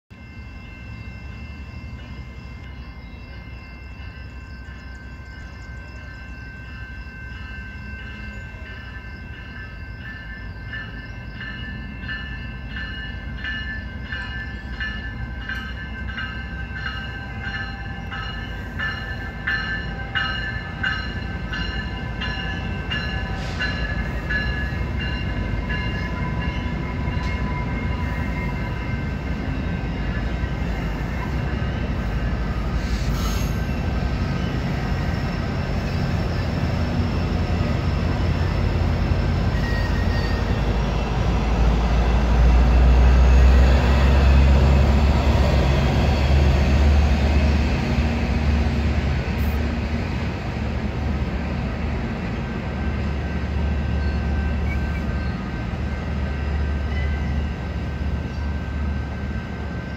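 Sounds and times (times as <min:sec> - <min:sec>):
train wheels rumbling: 0:00.1 - 0:59.9.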